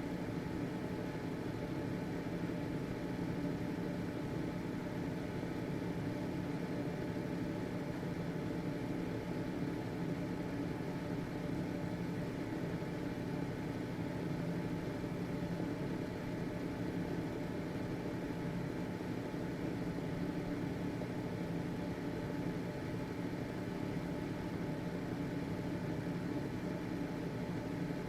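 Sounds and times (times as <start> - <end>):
ventilation fan running: 0.0 - 28.0.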